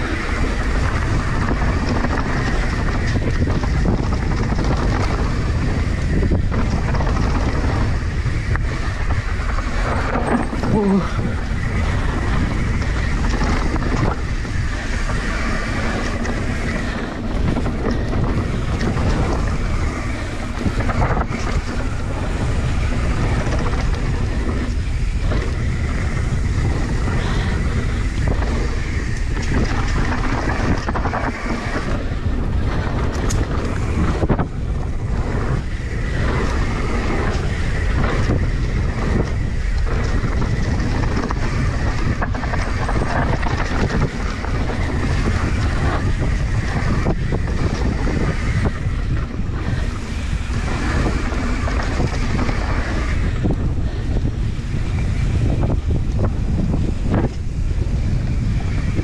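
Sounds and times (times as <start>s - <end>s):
bike knocks and rattles: 0.0s - 59.0s
tyres rumbling over dirt: 0.0s - 59.0s
wind buffeting microphone: 0.0s - 59.0s.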